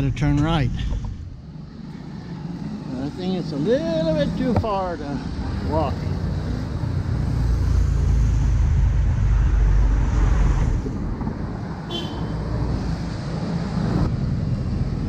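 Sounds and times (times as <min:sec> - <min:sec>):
vehicle engine rumble passing: 0:00.0 - 0:15.0.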